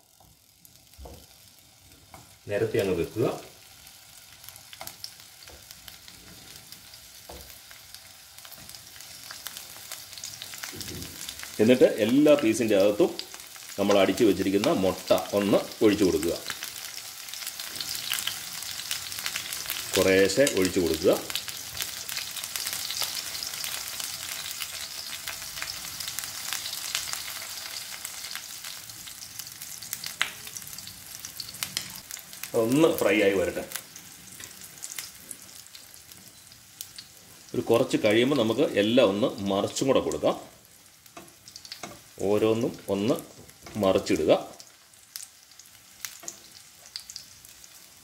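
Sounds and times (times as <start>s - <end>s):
tomato slices sizzling in oil: 0.0s - 48.0s.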